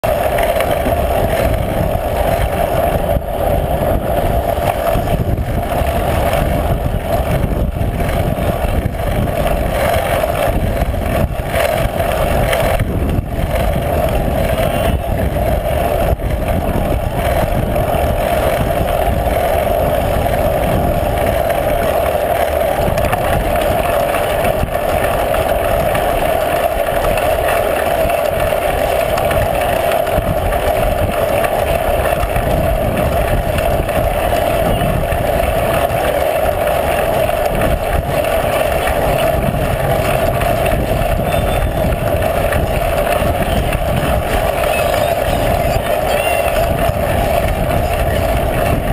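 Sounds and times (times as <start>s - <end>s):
bicycle road noise: 0.0s - 48.9s
mid-pitched hum: 0.0s - 48.9s
wind rush: 0.0s - 48.9s.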